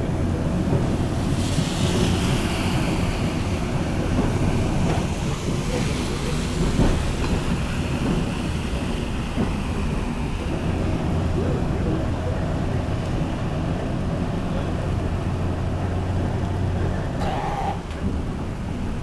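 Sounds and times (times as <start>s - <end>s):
streetcar wheels rumbling: 0.0s - 19.0s
wheels clicking over rail joints: 0.0s - 19.0s.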